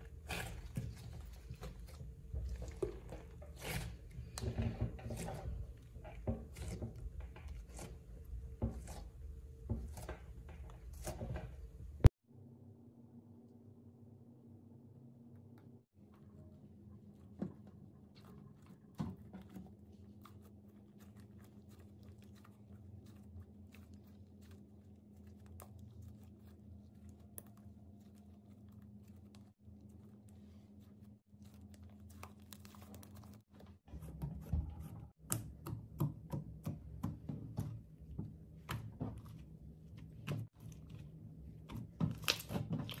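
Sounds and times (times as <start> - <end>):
hands working clay slime: 0.0 - 12.2, 15.8 - 43.0.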